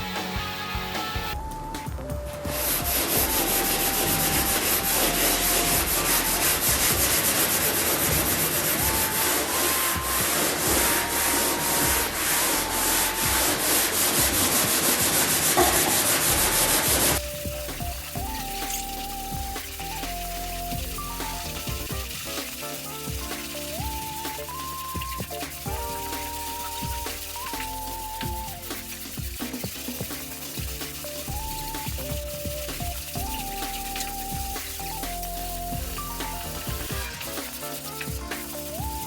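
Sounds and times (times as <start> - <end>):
background music: 0.0 - 39.0.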